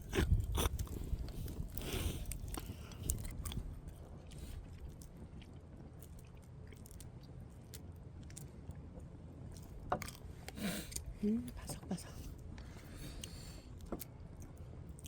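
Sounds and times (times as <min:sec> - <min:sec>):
person chewing crunchy food: 0:00.0 - 0:11.1, 0:12.3 - 0:15.0
low steady rumble: 0:00.0 - 0:15.0.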